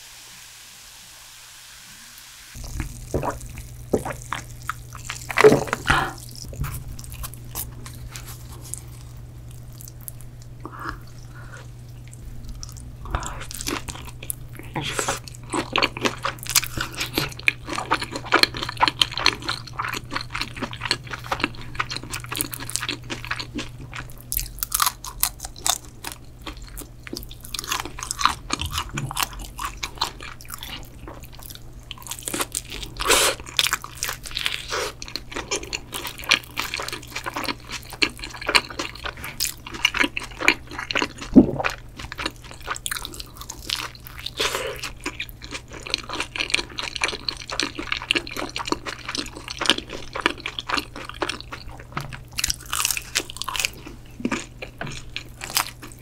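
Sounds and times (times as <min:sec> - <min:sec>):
crunchy chewing: 0:02.6 - 0:56.0.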